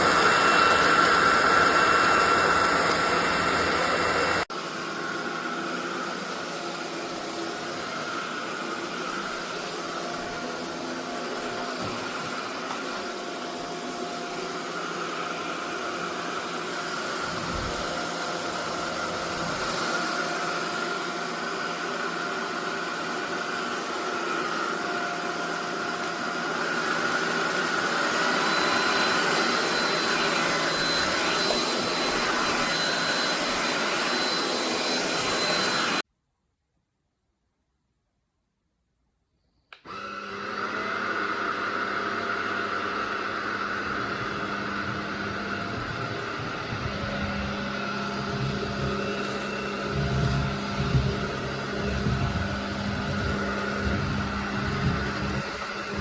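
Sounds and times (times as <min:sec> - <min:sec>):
stick vacuum motor whining: 0:00.0 - 0:36.0, 0:39.7 - 0:56.0.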